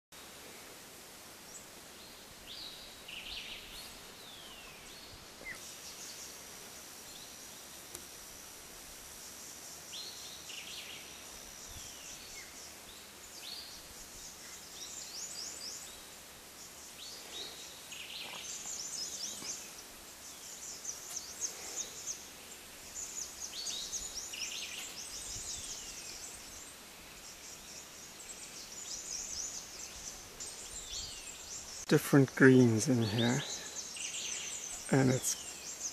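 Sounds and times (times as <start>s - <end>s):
steady outdoor hiss: 0.1s - 35.9s.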